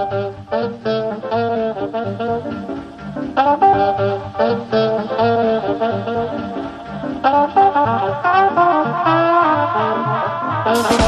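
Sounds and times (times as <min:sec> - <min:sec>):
electro swing music: 0:00.0 - 0:11.0.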